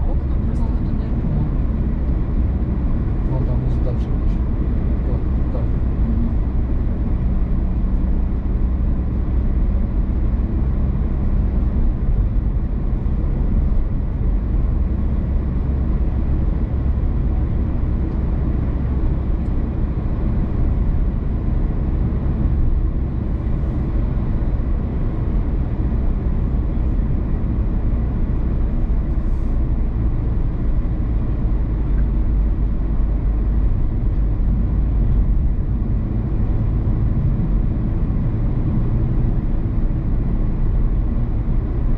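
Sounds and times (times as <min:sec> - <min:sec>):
car driving on road: 0:00.0 - 0:41.9.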